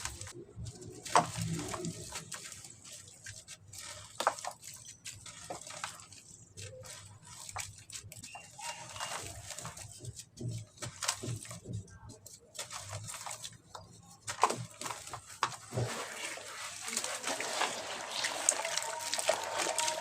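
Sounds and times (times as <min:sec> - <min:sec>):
cement crackling in water: 0:00.0 - 0:20.0.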